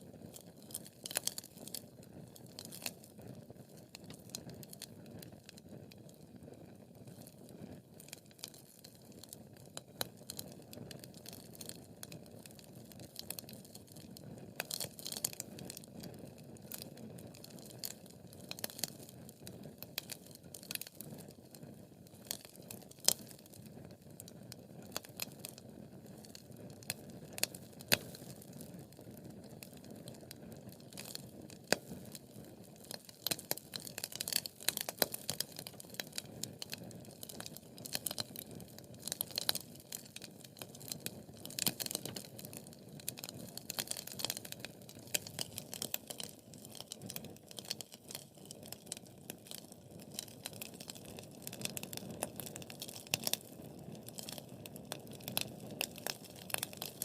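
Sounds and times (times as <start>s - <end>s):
crackles and pops of burning logs: 0.0s - 57.0s.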